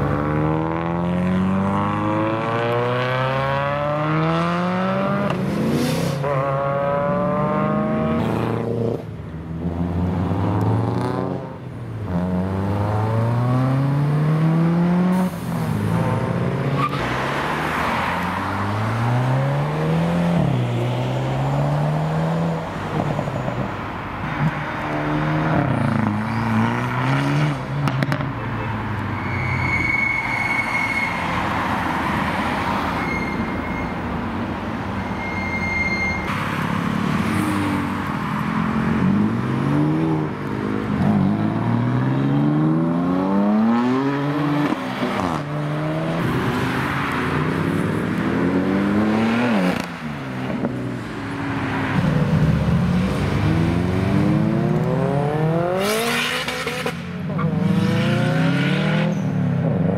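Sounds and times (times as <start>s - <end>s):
car engines revving hard: 0.0s - 23.2s, 24.2s - 28.4s, 36.4s - 59.9s.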